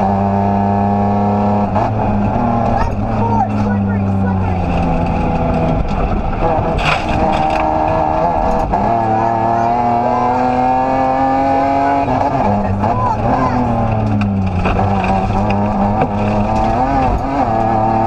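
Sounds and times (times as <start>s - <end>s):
car engine revving under load: 0.0s - 18.0s.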